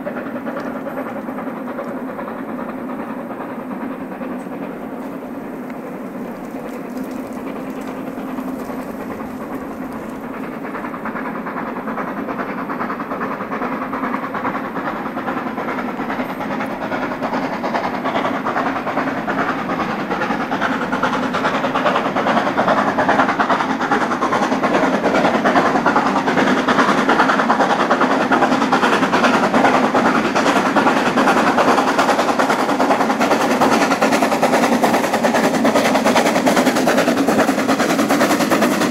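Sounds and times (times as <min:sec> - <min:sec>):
steam locomotive chuffing: 0:00.0 - 0:38.9.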